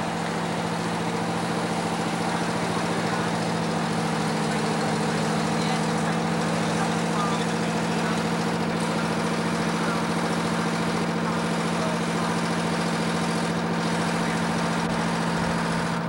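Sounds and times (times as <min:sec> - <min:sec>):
fire engine running: 0:00.0 - 0:16.0.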